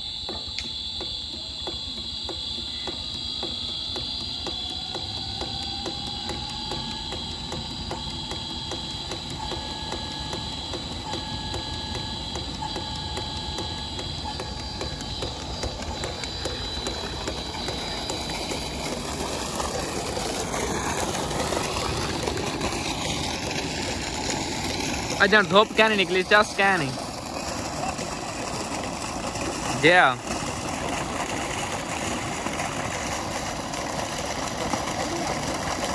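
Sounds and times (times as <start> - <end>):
pump whine: 0.0 - 35.9
water pouring from pipe: 0.0 - 35.9
water pump motor ticking: 0.0 - 35.9.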